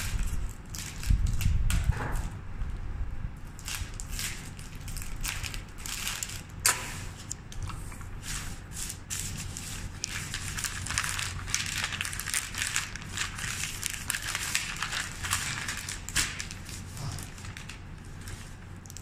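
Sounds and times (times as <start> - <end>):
paper rustling and crackling: 3.6 - 19.0.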